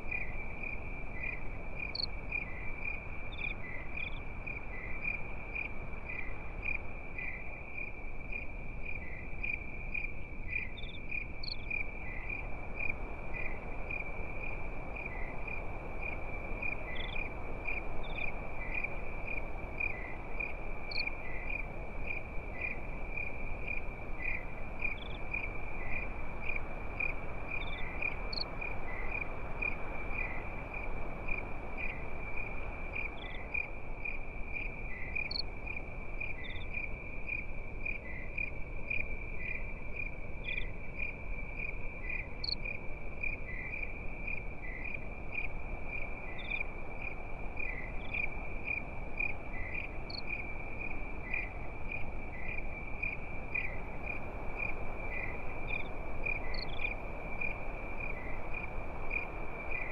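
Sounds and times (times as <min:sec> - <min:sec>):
crickets chirping: 0:00.0 - 0:59.9
soft steady hiss: 0:00.0 - 0:59.9.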